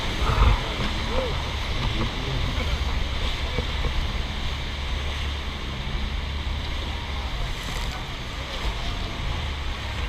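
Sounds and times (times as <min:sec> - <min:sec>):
steady low hum: 0:00.0 - 0:10.0
water rushing around a raft: 0:00.0 - 0:10.0
wind buffeting microphone: 0:00.0 - 0:10.0.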